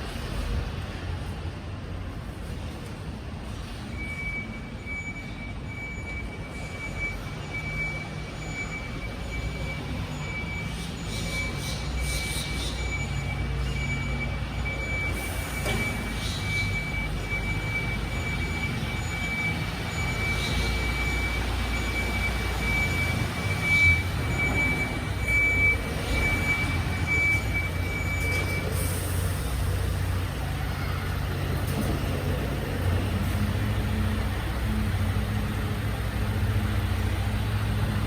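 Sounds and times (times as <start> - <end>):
truck diesel engine running: 0.0 - 38.0.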